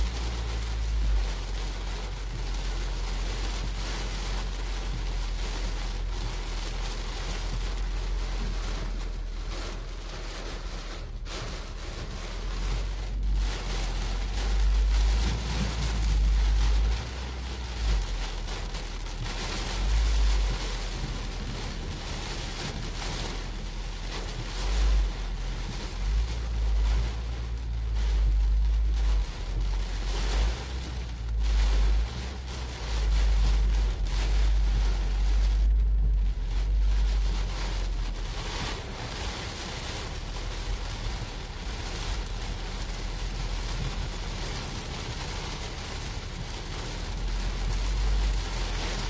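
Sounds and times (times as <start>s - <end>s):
hail and rain on car roof: 0.0s - 49.0s
low rumble: 0.0s - 49.0s.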